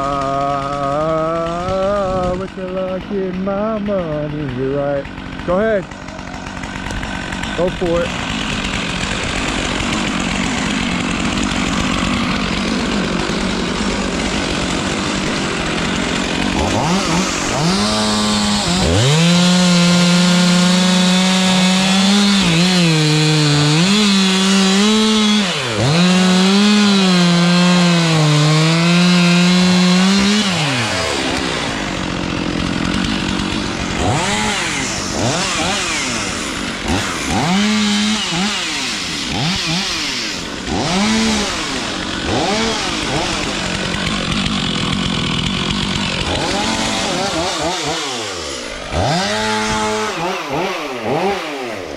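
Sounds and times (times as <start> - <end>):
chainsaw cutting into tree: 0.0 - 51.9.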